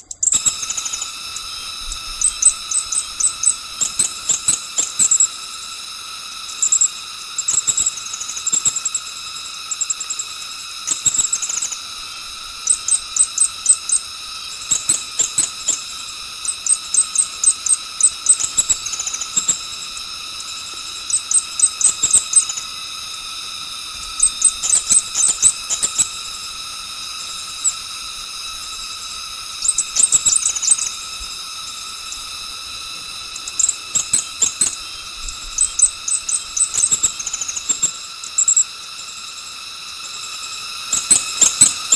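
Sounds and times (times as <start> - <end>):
birds chirping: 0.0 - 5.4, 6.3 - 38.6
high-pitched insect drone: 0.0 - 41.9.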